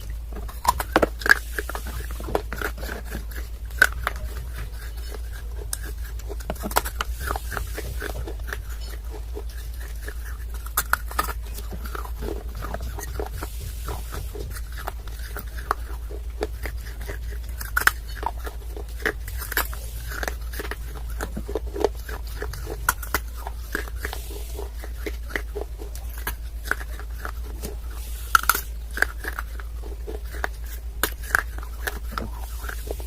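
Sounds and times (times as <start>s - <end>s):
chewing hard clay crunches: 0.0s - 33.0s
steady low hum: 0.0s - 33.0s.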